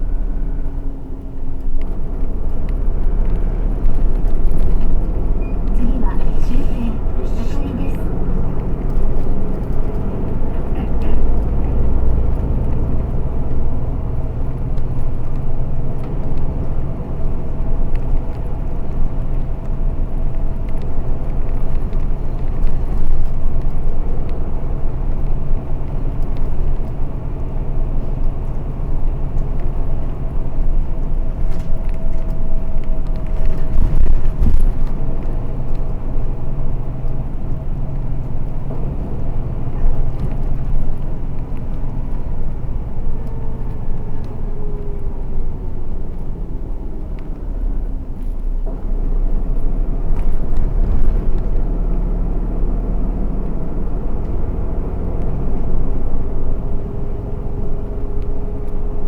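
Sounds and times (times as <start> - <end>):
bus engine drone: 0.0 - 59.0
tyre and road noise: 0.0 - 59.0.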